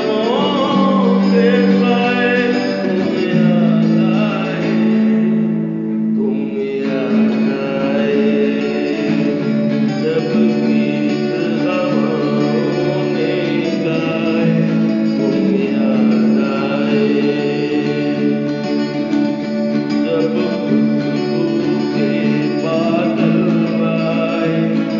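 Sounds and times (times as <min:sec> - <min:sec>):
acoustic guitar: 0:00.0 - 0:24.9
person singing: 0:00.0 - 0:24.9.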